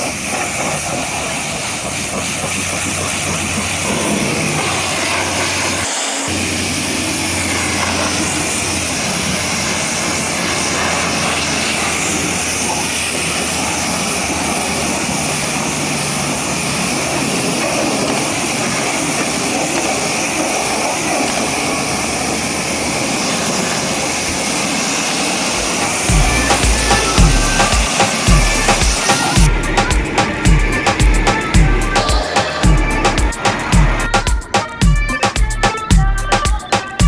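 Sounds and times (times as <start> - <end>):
pressure washer jet spraying water: 0.0 - 37.0.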